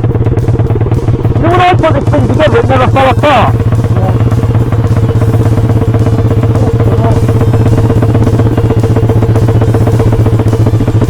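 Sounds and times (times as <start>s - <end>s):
mini-bike engine running: 0.0s - 11.0s.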